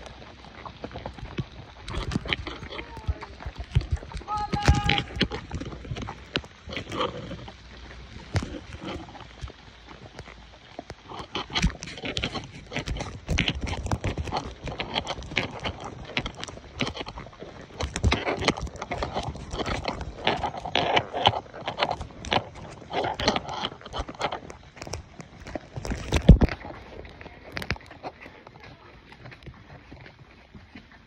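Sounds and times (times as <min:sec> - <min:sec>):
hooves on gravel: 0:00.0 - 0:31.0.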